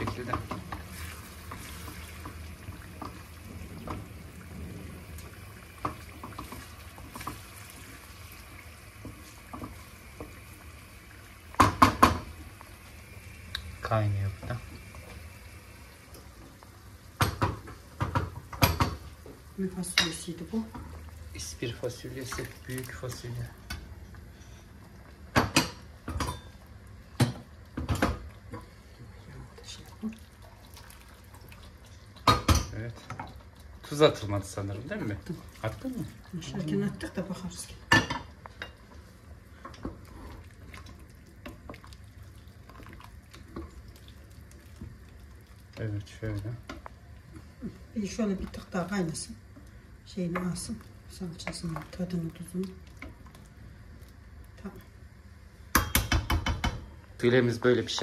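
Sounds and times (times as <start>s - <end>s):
sauce bubbling quietly: 0.0s - 55.8s
water trickling into a pan: 0.0s - 58.0s.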